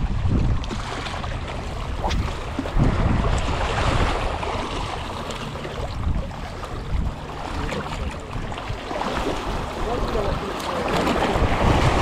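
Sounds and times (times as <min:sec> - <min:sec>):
waves splashing against rocks: 0:00.0 - 0:12.0
wind buffeting microphone: 0:00.0 - 0:12.0.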